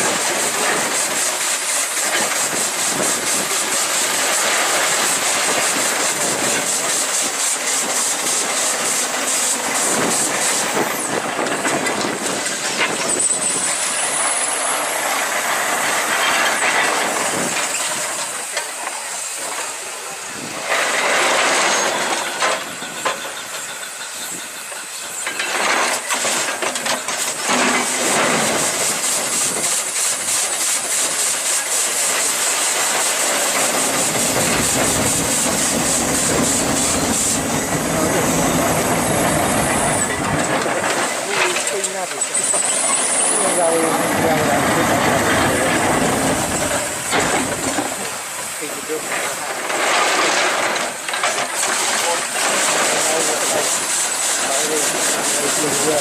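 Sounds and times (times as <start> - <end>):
blasts of escaping steam: 0.0 - 56.0
steam engine hissing: 0.0 - 56.0.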